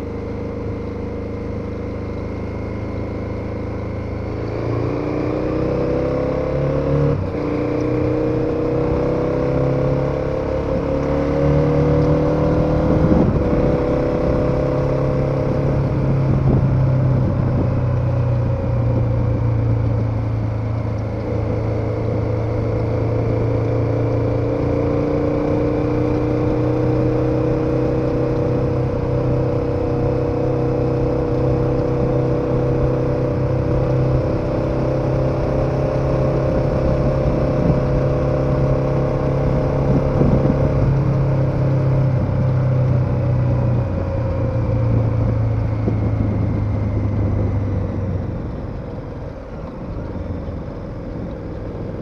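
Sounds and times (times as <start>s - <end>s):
motorcycle engine running: 0.0s - 52.0s
road and wind noise: 0.0s - 52.0s.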